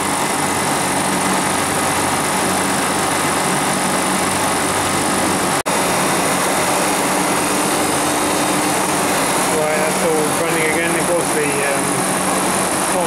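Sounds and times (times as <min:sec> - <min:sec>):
compressor humming: 0:00.0 - 0:13.0
condenser fans rushing: 0:00.0 - 0:13.0.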